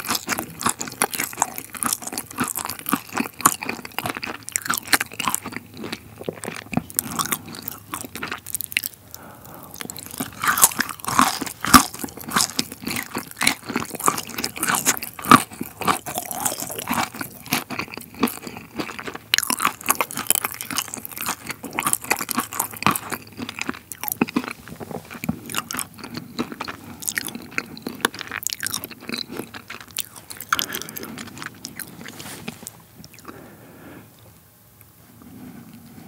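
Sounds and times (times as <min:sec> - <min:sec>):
crunchy chewing: 0:00.0 - 0:33.6.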